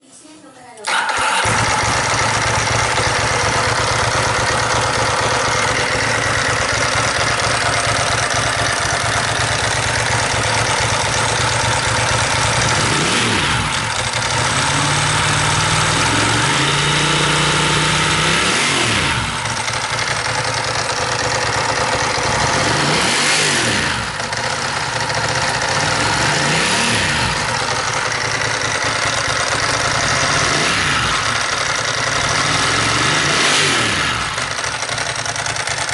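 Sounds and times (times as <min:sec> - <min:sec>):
motorcycle engine idling and revving: 0:00.9 - 0:35.9.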